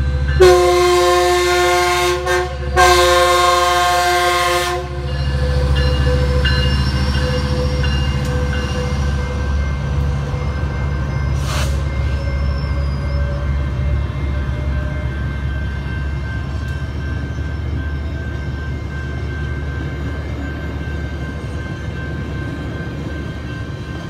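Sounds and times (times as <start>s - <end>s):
crossing warning bell: 0.0s - 24.0s
train wheels rumbling on rails: 0.0s - 24.0s.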